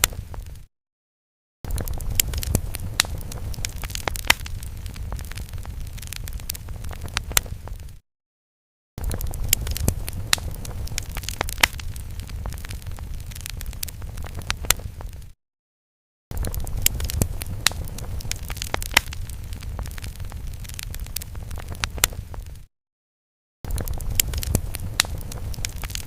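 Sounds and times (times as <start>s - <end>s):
crackling flames: 0.0s - 0.7s, 1.6s - 8.0s, 9.0s - 15.4s, 16.3s - 22.7s, 23.6s - 26.0s.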